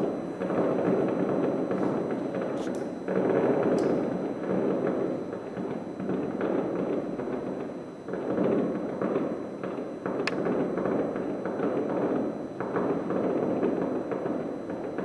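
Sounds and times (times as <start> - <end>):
distant fireworks rumble and crackle: 0.0 - 15.0
sharp firework crack: 0.0 - 15.0.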